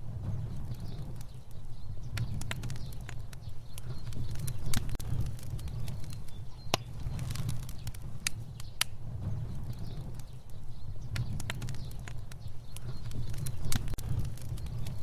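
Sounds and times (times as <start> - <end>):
fire crackling and popping: 0.0 - 15.0
flames rumbling: 0.0 - 15.0.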